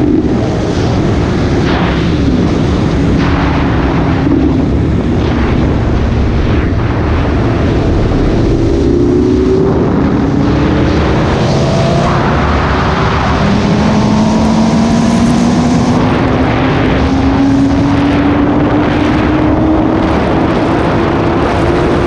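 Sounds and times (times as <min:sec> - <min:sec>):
motorcycle engine accelerating: 0:00.0 - 0:22.0
wind rush: 0:00.0 - 0:22.0.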